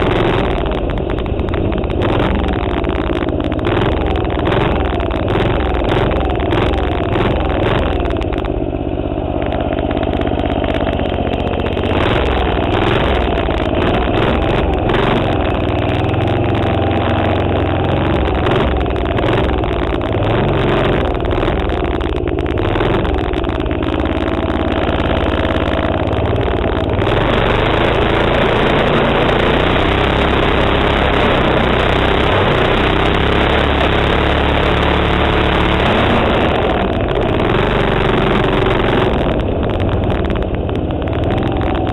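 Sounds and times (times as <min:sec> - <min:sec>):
minibike engine revving: 0:00.0 - 0:41.9.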